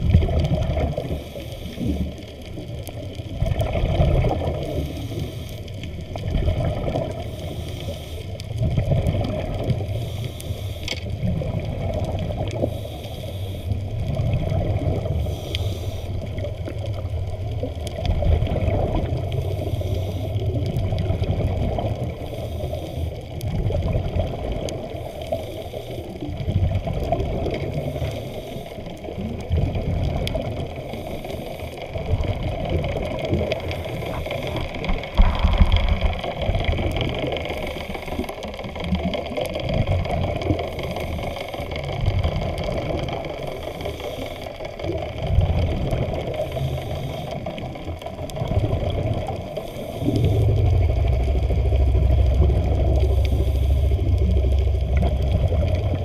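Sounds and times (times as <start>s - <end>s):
underwater water rumble: 0.0s - 56.0s
faint clicks: 0.1s - 56.0s.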